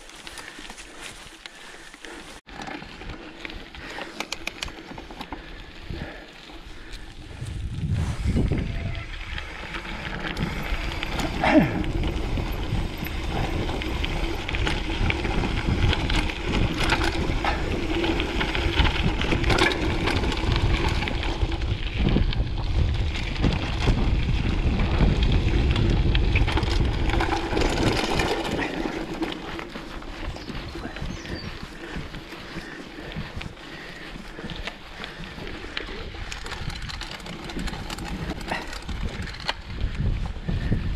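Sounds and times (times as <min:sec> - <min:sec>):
bike clicks and rattles: 0:00.0 - 0:40.9
bike rumbling over gravel: 0:00.0 - 0:40.9.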